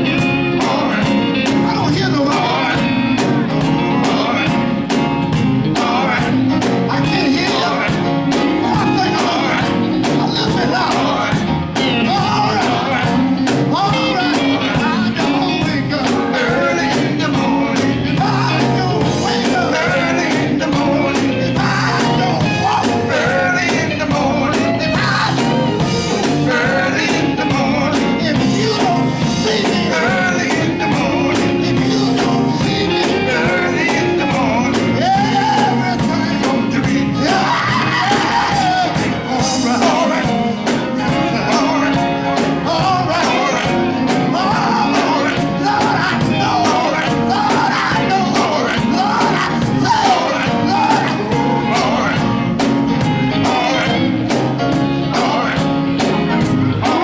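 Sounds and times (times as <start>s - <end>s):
band with steady drum beat: 0.0s - 57.0s
voices singing gospel: 0.0s - 57.0s.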